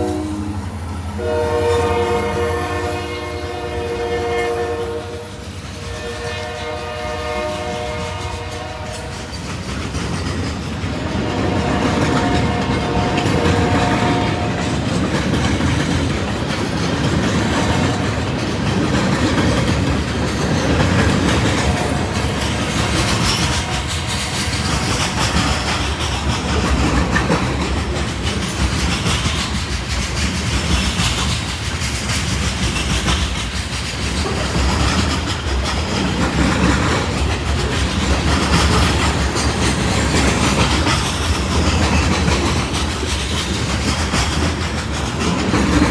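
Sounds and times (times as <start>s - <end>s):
railcars rumbling: 0.0s - 45.9s
wheels clattering over rails: 8.5s - 45.9s.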